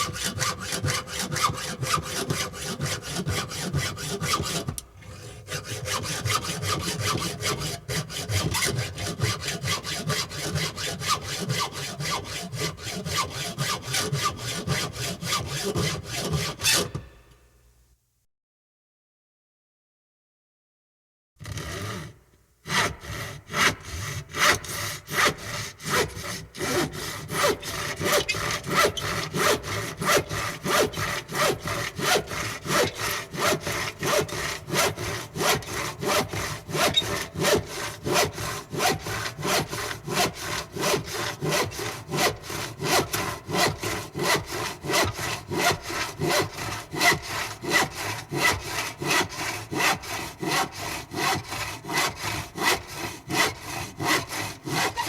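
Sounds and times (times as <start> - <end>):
hand saw cutting wood: 0.0 - 17.1, 21.4 - 55.0.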